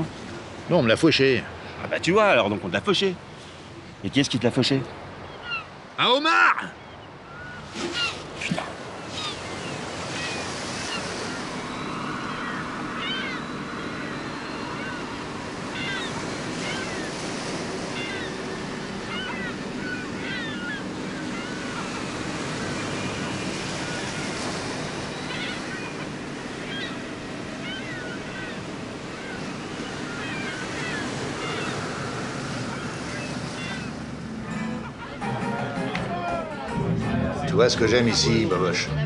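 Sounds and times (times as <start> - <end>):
sea surf washing: 0.0 - 39.0
seagulls mewing: 5.2 - 39.0.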